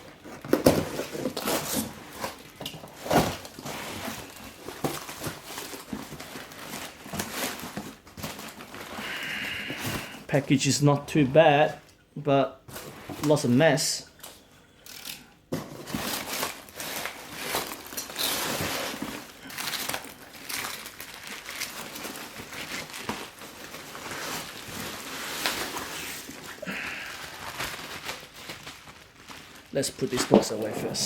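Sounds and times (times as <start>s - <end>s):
packing material crunches: 0.0s - 10.4s, 15.8s - 31.0s
packing material crinkling: 0.0s - 10.7s, 12.7s - 31.0s.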